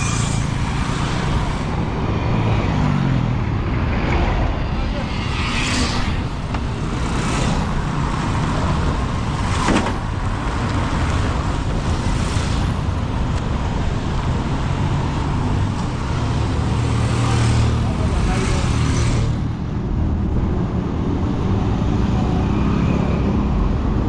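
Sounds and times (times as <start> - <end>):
vehicles passing by: 0.0 - 24.0.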